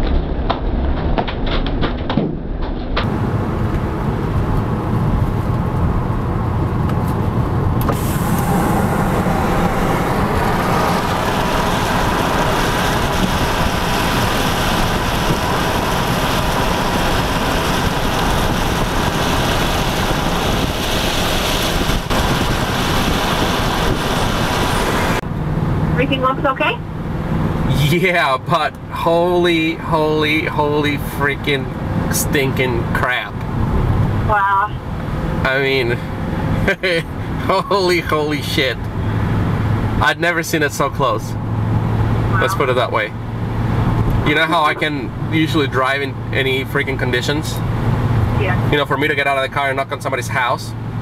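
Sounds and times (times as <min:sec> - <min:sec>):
road and wind noise inside car: 0:00.0 - 0:51.0.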